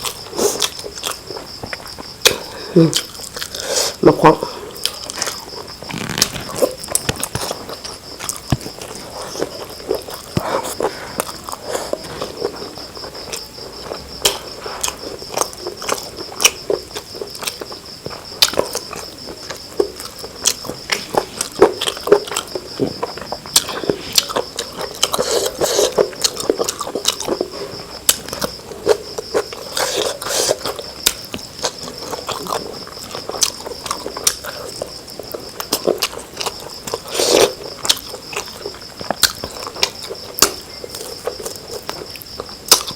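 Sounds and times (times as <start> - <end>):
chewing and mouth smacks: 0.0 - 3.6, 4.8 - 42.9.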